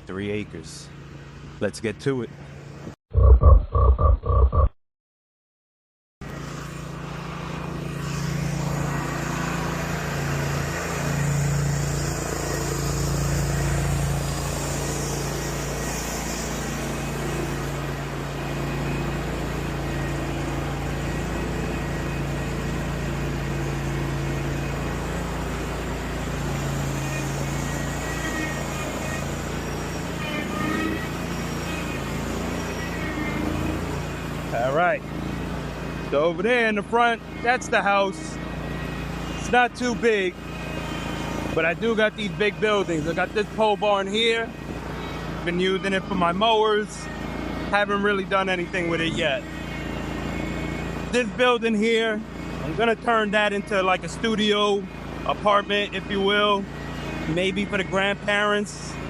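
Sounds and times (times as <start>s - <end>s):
riding mower engine running: 0.0s - 1.6s, 6.2s - 59.0s.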